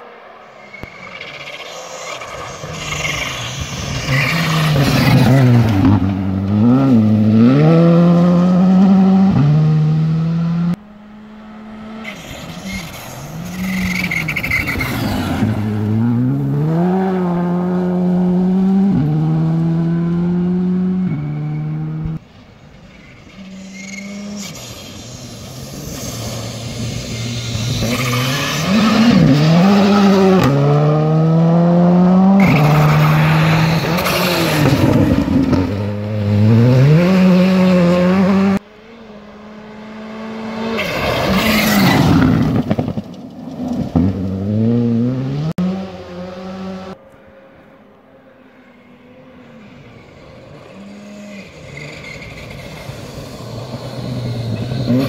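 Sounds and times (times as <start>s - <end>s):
rally car engine revving: 0.0s - 22.2s, 23.3s - 47.0s, 49.4s - 55.0s.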